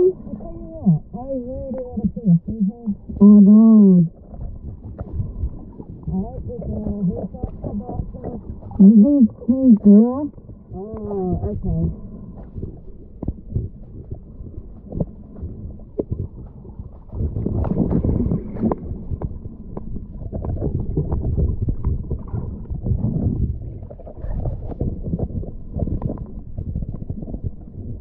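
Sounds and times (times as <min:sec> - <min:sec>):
muffled underwater rumble: 0:00.0 - 0:28.0.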